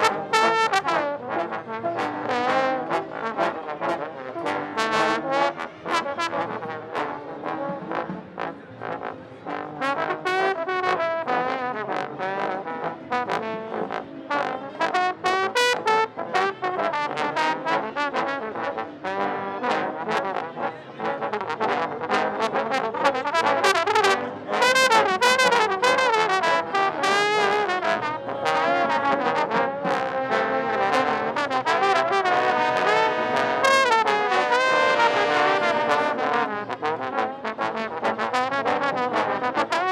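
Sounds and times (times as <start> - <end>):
solo trombone: 0.0 - 39.9.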